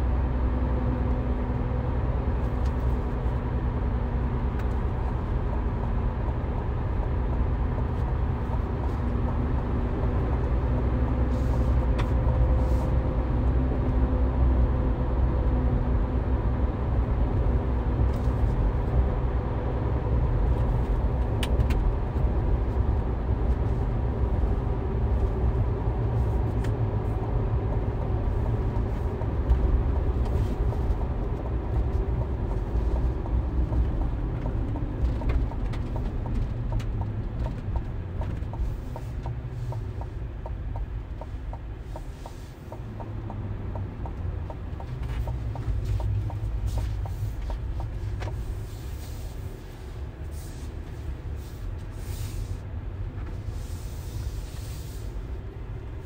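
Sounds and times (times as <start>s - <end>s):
in-cabin road and engine rumble: 0.0s - 56.0s.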